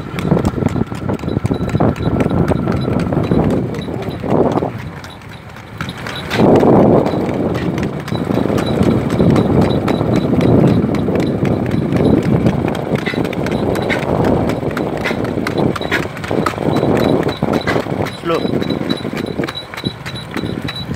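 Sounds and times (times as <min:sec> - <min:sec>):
horse hooves on paved road: 0:00.0 - 0:20.9.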